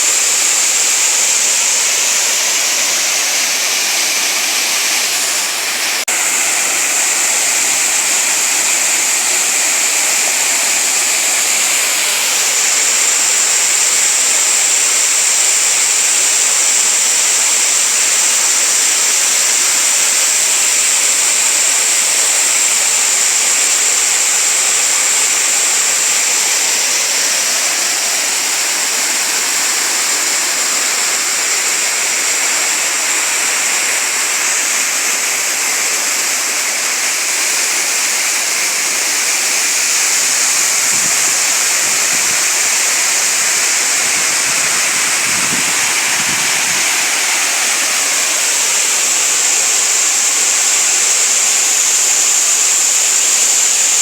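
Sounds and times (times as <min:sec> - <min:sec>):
stream flowing: 0:00.0 - 0:54.0
waterfall rushing: 0:00.0 - 0:54.0.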